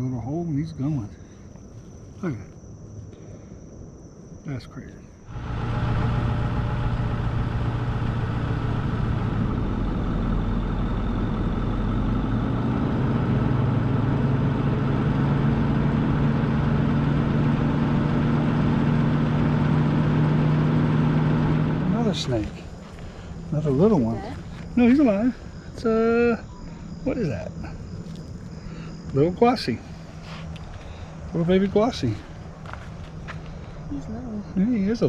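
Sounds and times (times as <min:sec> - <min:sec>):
vehicle engine and road noise: 0:05.2 - 0:35.0.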